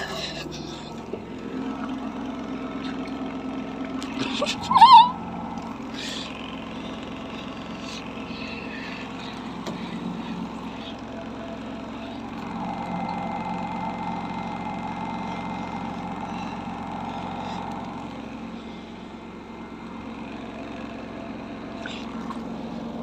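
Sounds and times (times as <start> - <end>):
washing machine spinning: 0.0 - 23.0.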